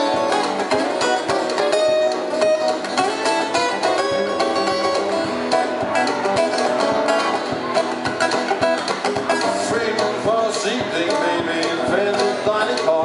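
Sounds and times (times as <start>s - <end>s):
acoustic guitars strummed: 0.0s - 13.0s.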